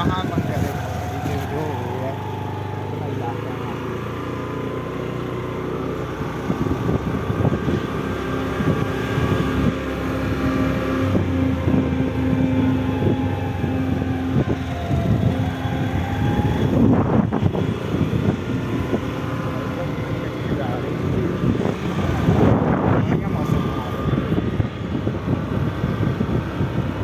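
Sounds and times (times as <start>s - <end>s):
wind buffeting microphone: 0.0s - 3.4s, 4.8s - 27.0s
motorbike engine running: 0.0s - 27.0s.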